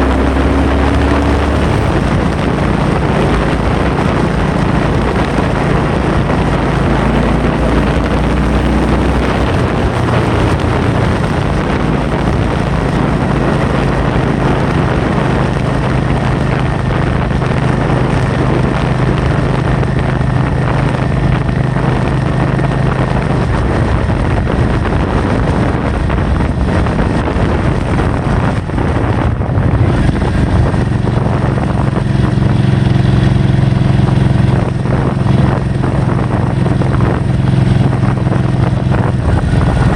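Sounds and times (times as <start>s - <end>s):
vehicle engine humming: 0.0s - 39.9s
wind rushing over microphone: 0.0s - 39.9s.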